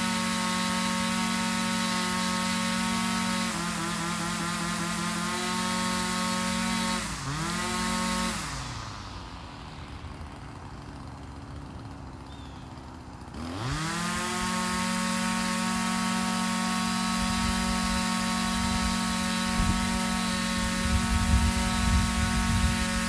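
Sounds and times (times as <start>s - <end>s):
small two-stroke engine revving: 0.0s - 23.0s.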